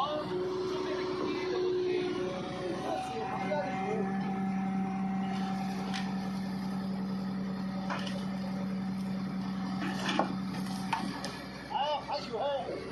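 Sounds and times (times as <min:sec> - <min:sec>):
machinery humming: 0:00.0 - 0:12.9.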